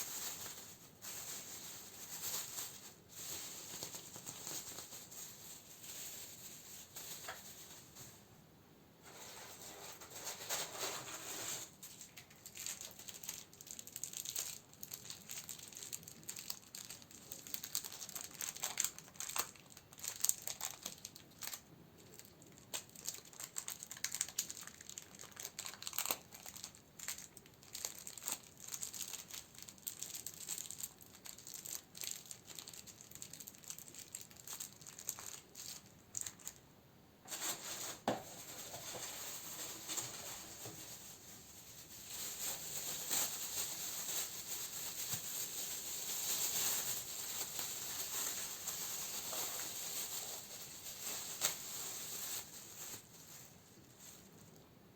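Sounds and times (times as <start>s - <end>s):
packaging crinkling: 0.0s - 8.2s, 9.1s - 36.6s, 37.3s - 54.6s.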